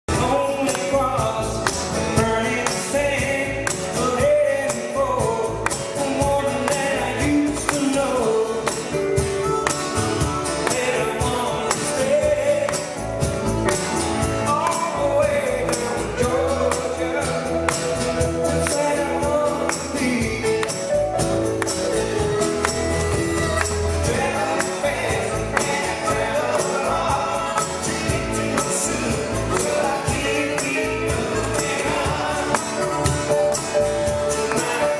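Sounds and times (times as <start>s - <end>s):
live band playing pop song: 0.1s - 34.9s.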